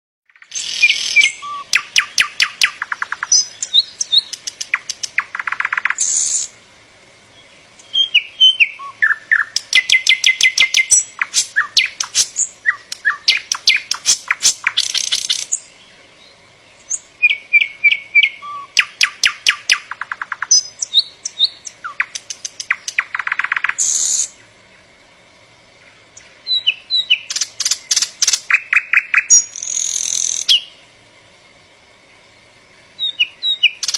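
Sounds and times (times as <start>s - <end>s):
songbird singing trills: 0.3s - 6.6s, 7.2s - 31.0s, 31.8s - 33.9s.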